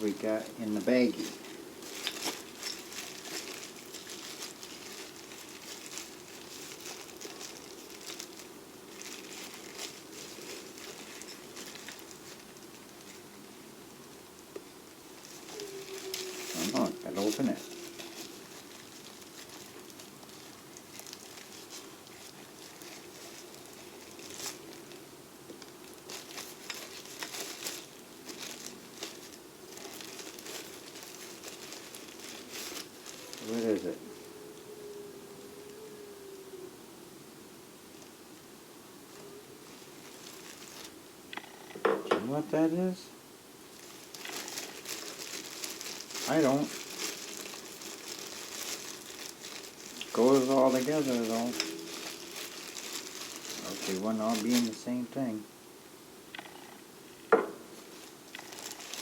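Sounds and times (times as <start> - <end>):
plastic baggie rustling and crinkling: 0.0 - 34.4, 39.1 - 43.0, 43.6 - 55.5, 56.4 - 59.0.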